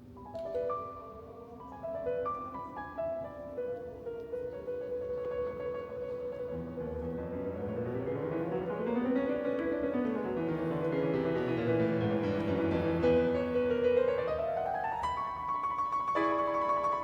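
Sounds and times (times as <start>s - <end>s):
slow classical keyboard music: 0.0s - 17.0s.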